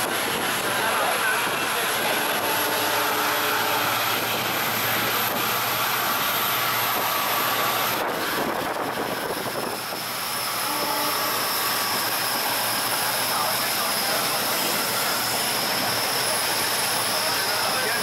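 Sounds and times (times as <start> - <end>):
passenger train running on track: 0.0 - 18.0
wheel and wind rushing: 0.0 - 18.0.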